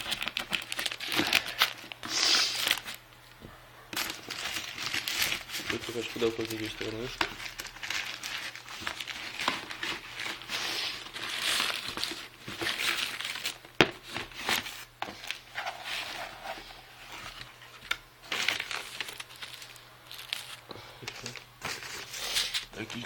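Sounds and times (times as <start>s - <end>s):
packaging crinkling and rustling: 0.0s - 3.0s, 3.9s - 23.0s.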